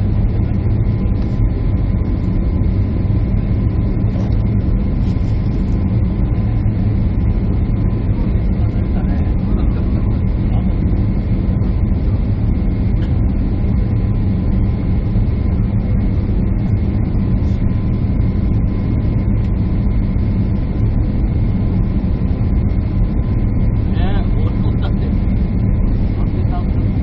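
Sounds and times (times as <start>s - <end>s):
jet airliner cabin noise: 0.0s - 27.0s.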